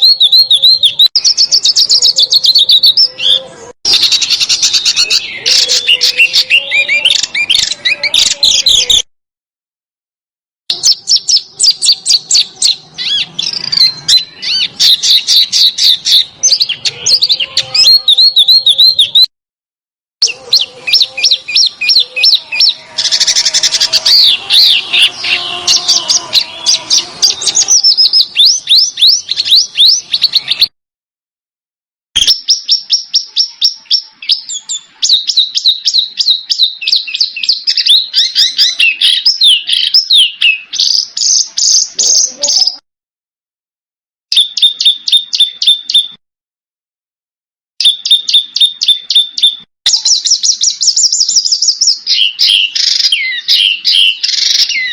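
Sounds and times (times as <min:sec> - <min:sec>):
songbird chirping and trilling: 0:00.0 - 0:09.1, 0:10.7 - 0:19.3, 0:20.2 - 0:30.7, 0:32.2 - 0:42.8, 0:44.3 - 0:46.2, 0:47.8 - 0:54.9.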